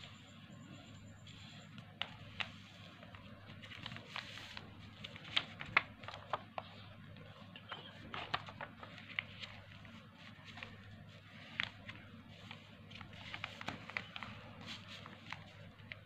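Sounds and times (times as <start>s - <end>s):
low steady hum: 0.0s - 16.0s
paper being folded and creased: 1.3s - 6.9s, 7.9s - 16.0s.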